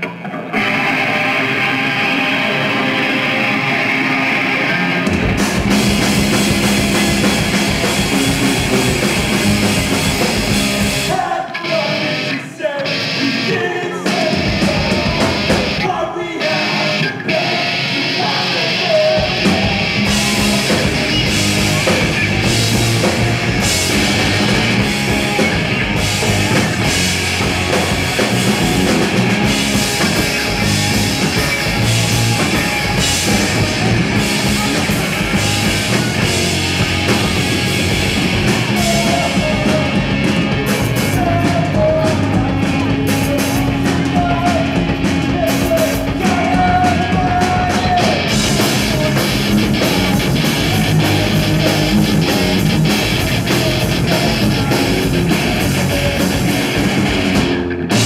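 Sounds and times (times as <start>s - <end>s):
loud rock music: 0.0s - 58.0s.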